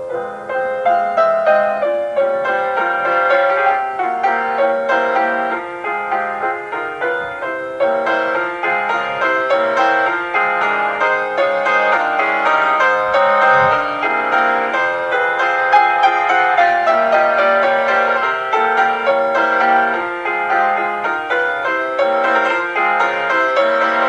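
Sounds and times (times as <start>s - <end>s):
solo classical piano: 0.0s - 24.0s.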